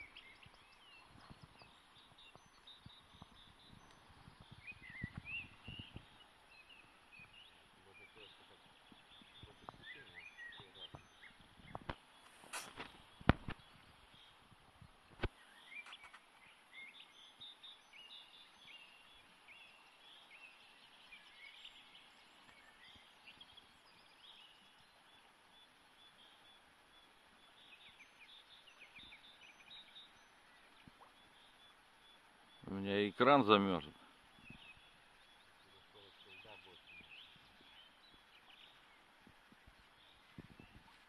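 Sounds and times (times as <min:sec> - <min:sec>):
river water flowing: 0:00.0 - 0:41.0
small birds chirping: 0:00.0 - 0:41.0.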